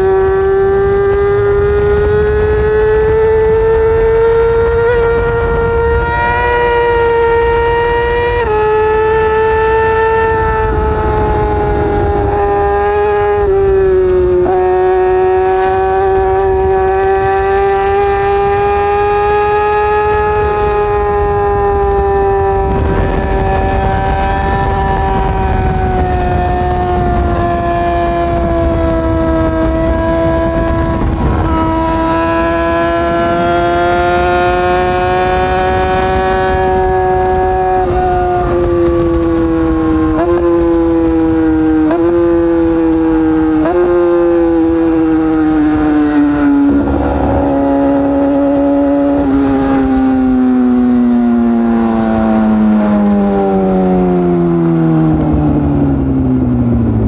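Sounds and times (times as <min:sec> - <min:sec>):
motorcycle engine downshifting: 0:00.0 - 0:57.0
wind rush on microphone: 0:00.0 - 0:57.0.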